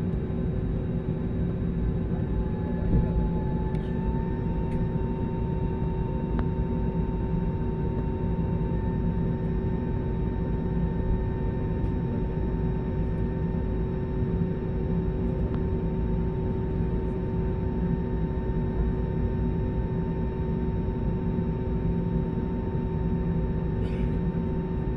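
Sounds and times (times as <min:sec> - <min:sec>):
airliner cabin rumble: 0:00.0 - 0:24.9
constant humming tones: 0:00.0 - 0:24.9.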